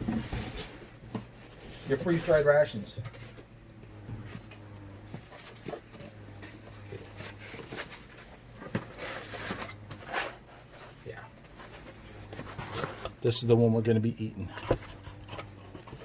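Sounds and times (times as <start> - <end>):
food packages rustling and knocking: 0.0 - 13.4.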